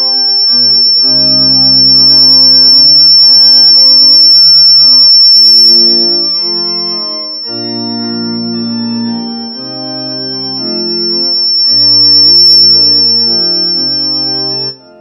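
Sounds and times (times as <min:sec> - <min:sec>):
church organ playing chords: 0:00.0 - 0:15.0
steady high-pitched tone: 0:00.0 - 0:15.0.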